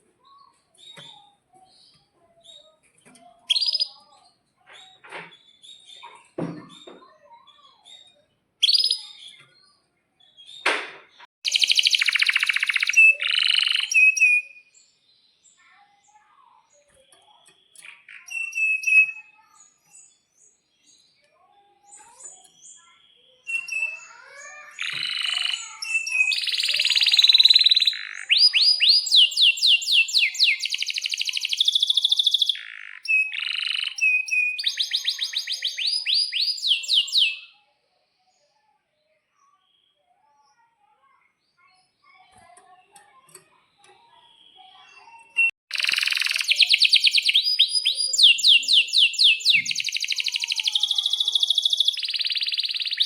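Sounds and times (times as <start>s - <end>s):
canary singing with trills: 0.0s - 10.7s, 11.4s - 21.2s, 21.8s - 53.0s.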